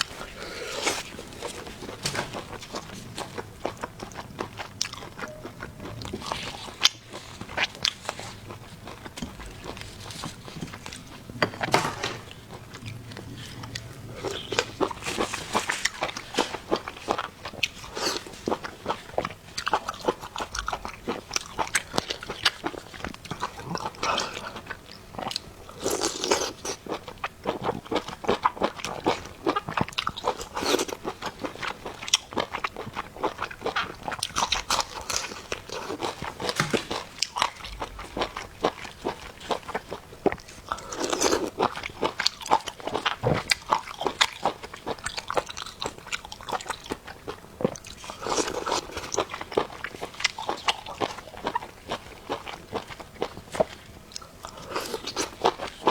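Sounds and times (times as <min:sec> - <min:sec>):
chewing crunchy food: 0:00.0 - 0:55.9.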